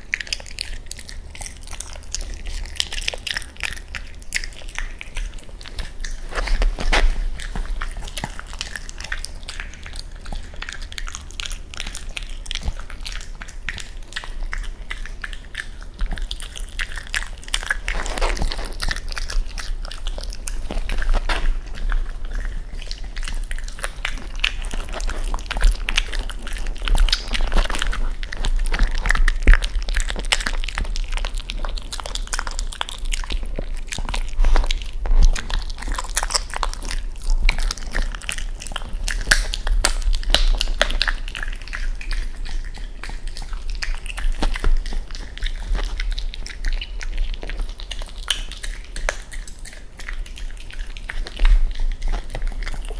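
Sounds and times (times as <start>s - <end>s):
dog chewing and crunching bones: 0.0s - 52.9s.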